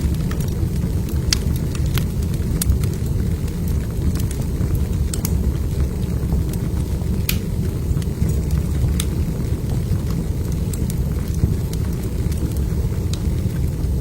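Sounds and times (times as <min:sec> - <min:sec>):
crackles and pops of burning logs: 0:00.0 - 0:14.0
fire low rumble: 0:00.0 - 0:14.0.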